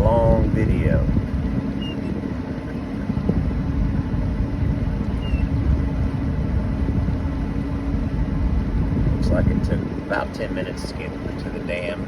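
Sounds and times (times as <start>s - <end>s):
boat engine and hull running: 0.0s - 12.0s.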